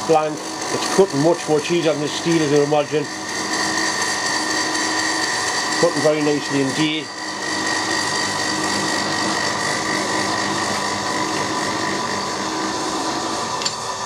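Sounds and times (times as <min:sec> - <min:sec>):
milling machine high whine: 0:00.0 - 0:14.0.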